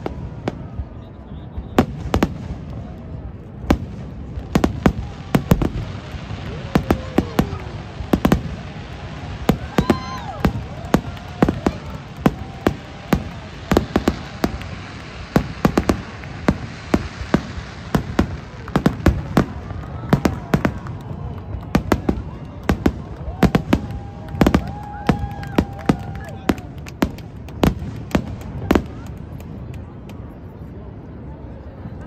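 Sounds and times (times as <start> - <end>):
fireworks bursting: 0.0 - 30.5.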